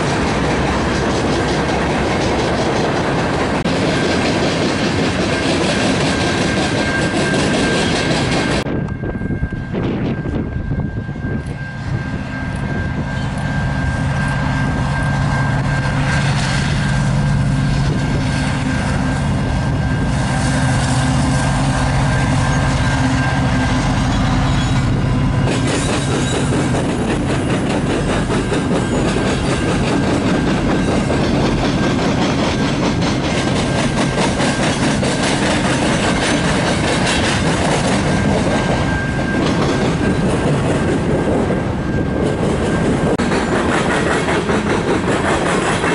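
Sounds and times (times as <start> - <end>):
diesel locomotive engines: 0.0 - 45.9.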